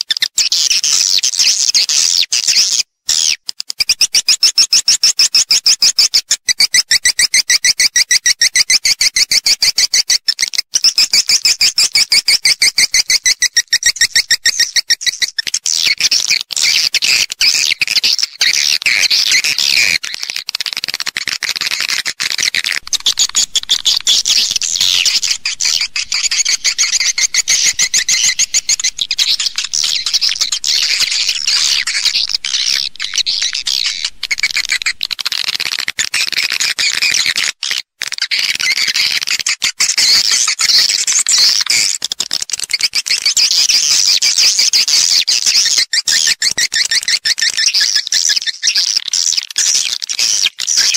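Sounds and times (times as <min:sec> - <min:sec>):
dense overlapping bird twittering: 0:00.0 - 0:02.8, 0:03.8 - 0:50.9
rapid high bird chirps: 0:00.0 - 0:50.9.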